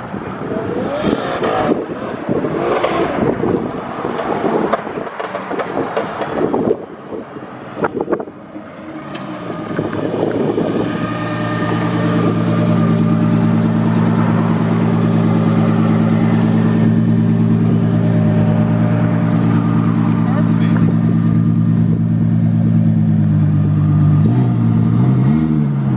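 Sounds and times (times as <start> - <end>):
car engine drone: 0.0 - 25.9.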